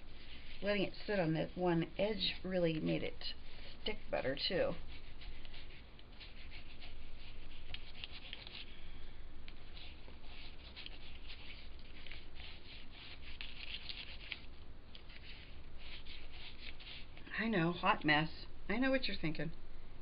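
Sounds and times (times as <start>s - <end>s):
cloth rubbing on foil tape: 0.0s - 8.9s, 9.6s - 17.2s.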